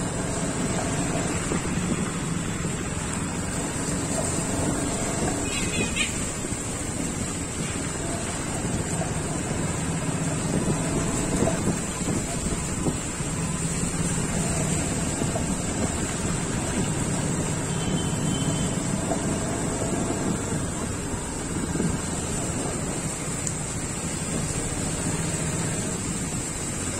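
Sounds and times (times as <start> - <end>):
motorcycle engine running: 0.0 - 26.2
wind noise on microphone: 0.0 - 26.6.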